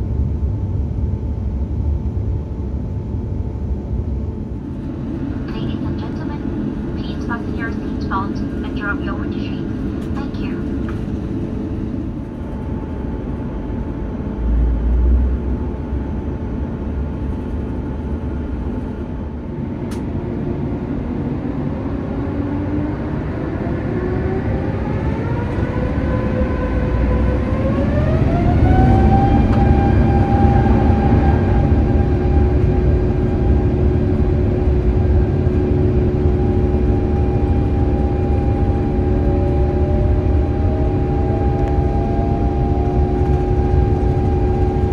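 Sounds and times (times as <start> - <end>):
jet engine whine: 0.0 - 44.9
low rumble: 0.0 - 44.9.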